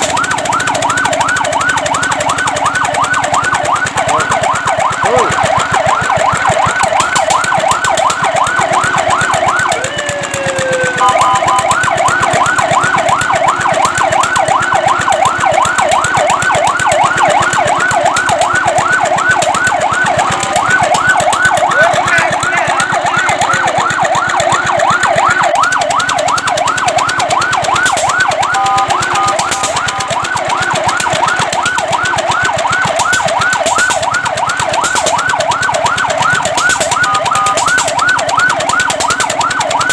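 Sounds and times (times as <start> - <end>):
fire truck siren: 0.0 - 39.9.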